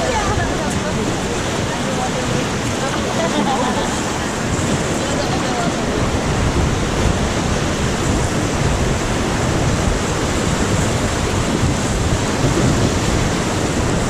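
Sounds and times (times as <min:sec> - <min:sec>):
whitewater river rushing: 0:00.0 - 0:14.0.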